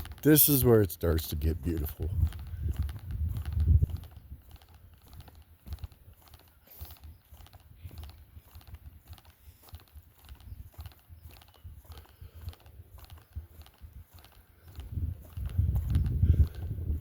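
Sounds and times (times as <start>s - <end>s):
footsteps on dirt trail: 0.0s - 17.0s.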